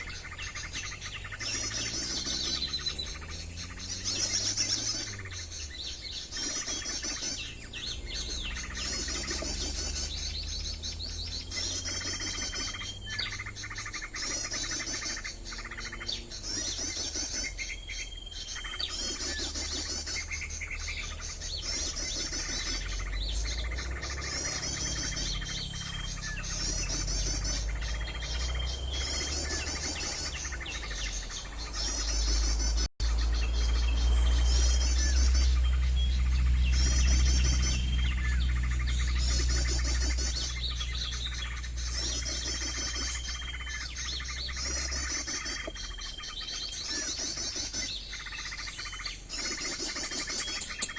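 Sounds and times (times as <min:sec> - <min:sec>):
small birds chirping trills: 0:00.0 - 0:50.9.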